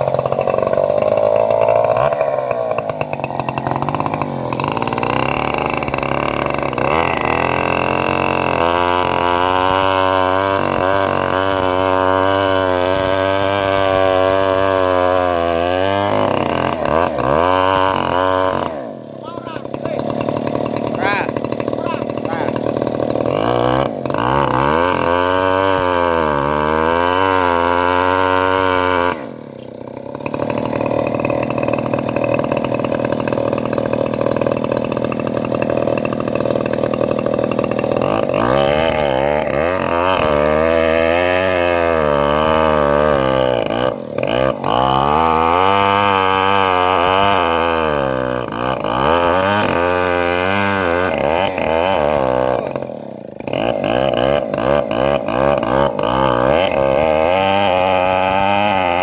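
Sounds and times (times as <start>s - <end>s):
engine-driven bandsaw mill sawing: 0.0s - 59.0s.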